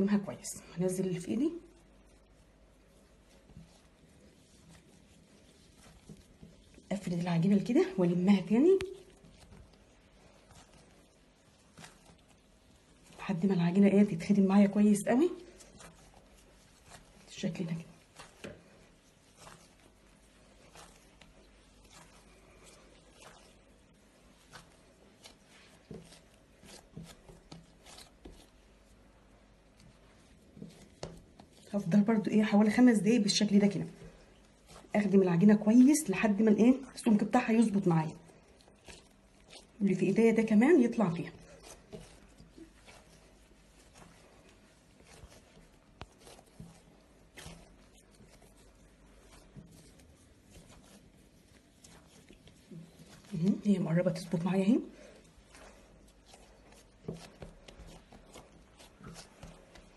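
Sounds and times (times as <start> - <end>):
dough kneaded on countertop: 0.0 - 59.9.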